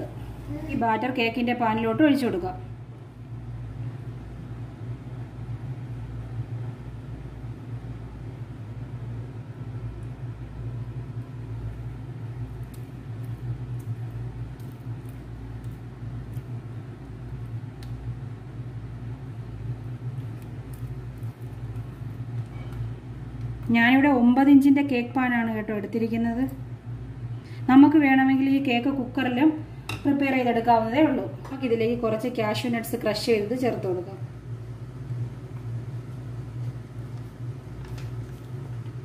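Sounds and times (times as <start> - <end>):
fan humming: 0.0 - 39.0.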